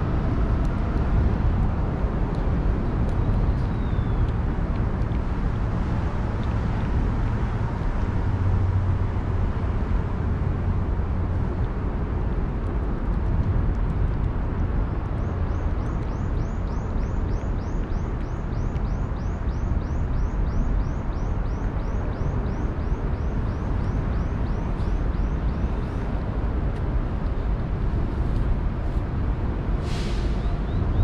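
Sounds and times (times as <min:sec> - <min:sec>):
distant city traffic rumble: 0:00.0 - 0:31.0.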